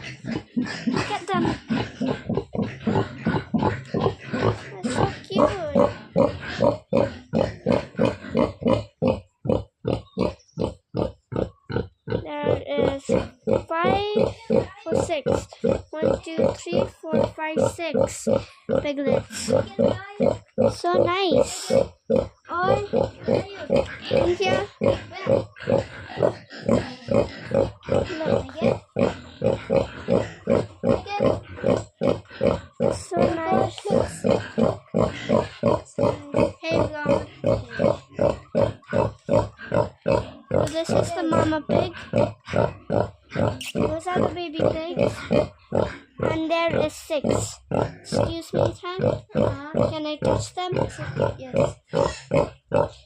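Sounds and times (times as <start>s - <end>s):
pigs grunting: 0.0s - 53.0s.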